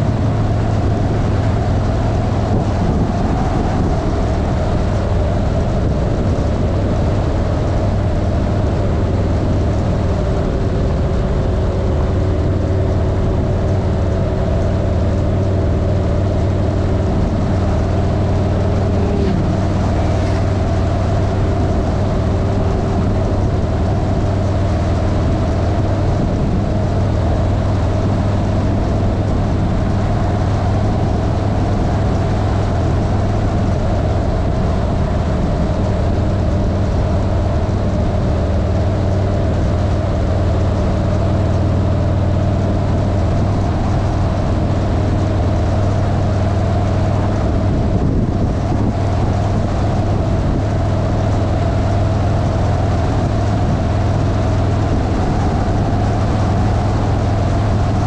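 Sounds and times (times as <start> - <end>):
vehicle engine cruising: 0.0 - 58.0
wind and tyre noise: 0.0 - 58.0.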